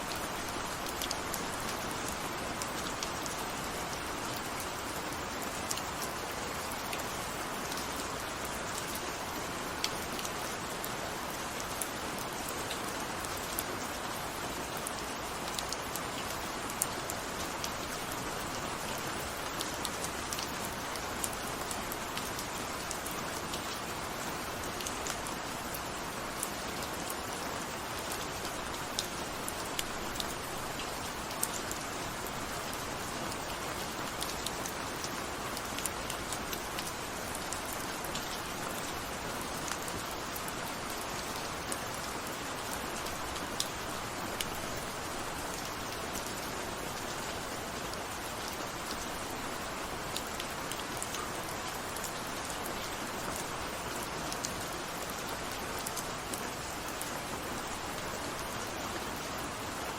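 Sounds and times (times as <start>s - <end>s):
rain hiss: 0.0s - 59.9s.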